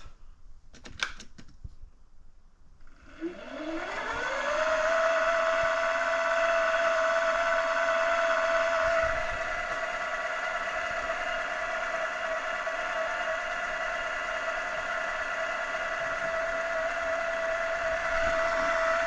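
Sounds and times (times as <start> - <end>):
milling machine motor whine: 3.0 - 19.0.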